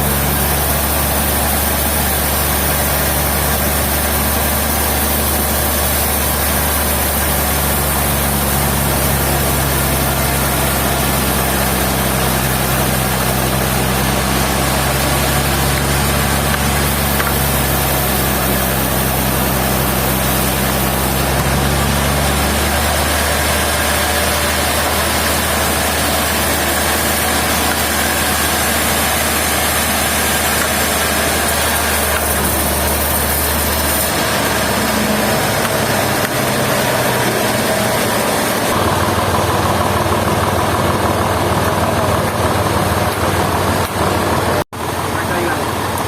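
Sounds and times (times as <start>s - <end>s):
machinery engine humming: 0.0s - 46.0s.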